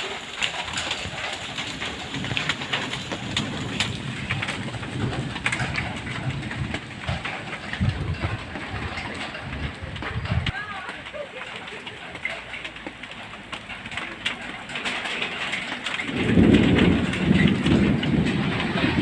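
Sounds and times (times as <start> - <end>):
heavy rain on a metal roof: 0.0 - 19.0.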